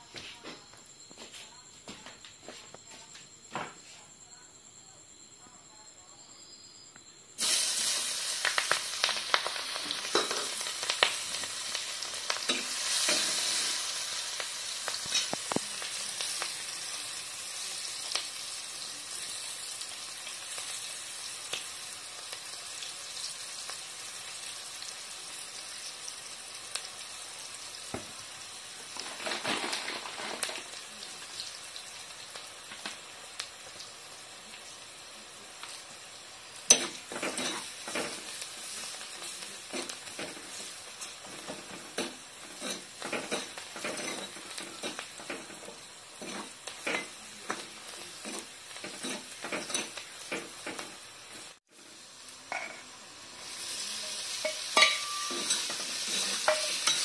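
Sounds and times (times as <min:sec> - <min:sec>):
onions sizzling in hot oil: 0:07.3 - 0:57.0
oil crackling and popping: 0:07.4 - 0:57.0.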